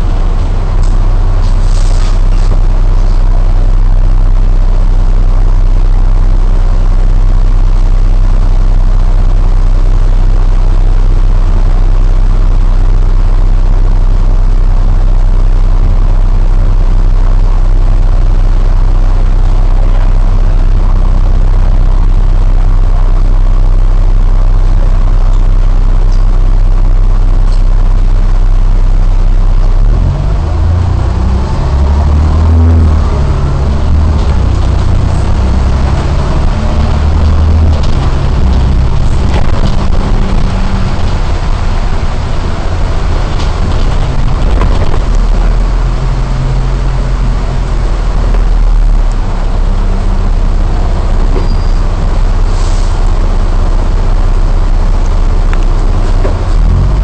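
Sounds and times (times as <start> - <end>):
bus diesel engine idling: 0.0 - 57.0.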